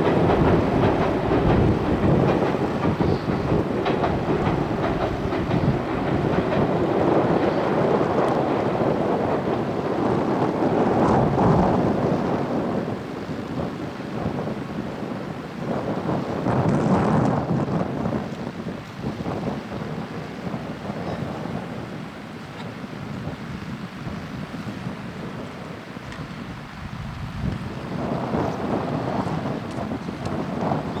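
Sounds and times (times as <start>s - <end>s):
electric train running past: 0.0s - 31.0s.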